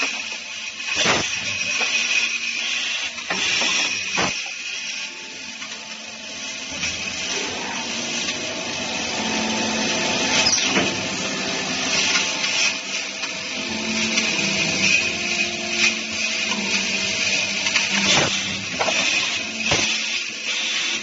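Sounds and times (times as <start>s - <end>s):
machine motor hum: 0.0s - 21.0s
metal cutting hiss: 0.0s - 21.0s.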